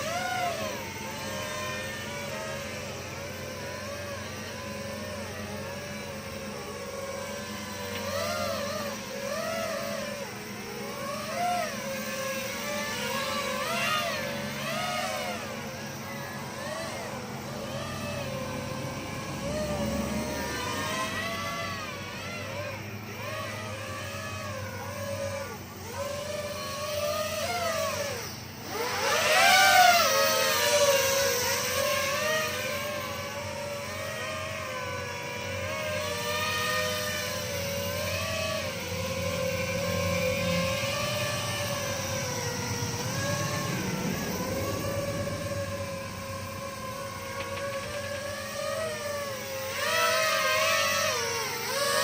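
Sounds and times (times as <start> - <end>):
drone propellers whining: 0.0 - 52.0.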